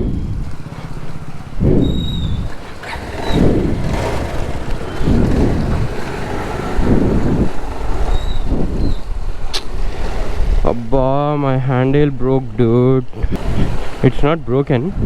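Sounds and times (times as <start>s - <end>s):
road and engine rumble: 0.0s - 15.0s
wind buffeting microphone: 0.0s - 15.0s.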